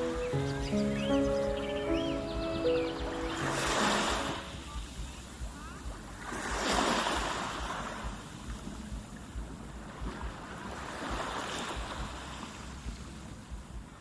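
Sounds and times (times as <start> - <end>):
waves: 0.0 - 14.0
wind buffeting microphone: 0.0 - 14.0.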